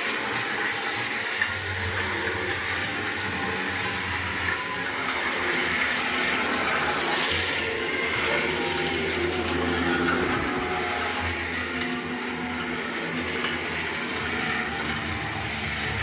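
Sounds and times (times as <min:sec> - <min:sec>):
stirrer churning: 0:00.0 - 0:16.0
stirring machine motor hum: 0:00.0 - 0:16.0.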